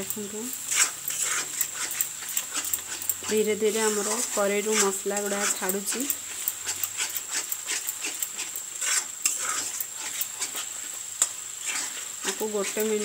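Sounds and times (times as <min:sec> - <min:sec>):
light frying sizzle: 0:00.0 - 0:13.0
metal spatula scraping iron pan: 0:00.6 - 0:13.0.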